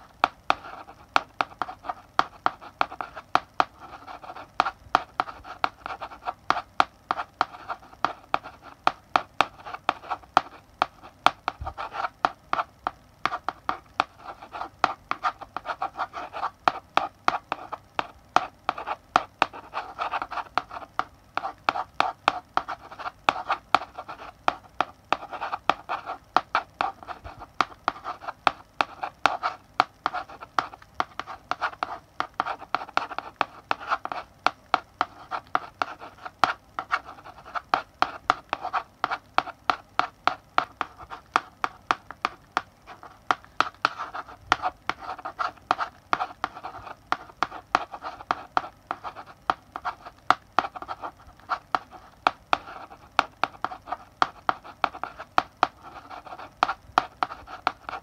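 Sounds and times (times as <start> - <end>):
chalk writing on a blackboard: 0.0 - 58.0.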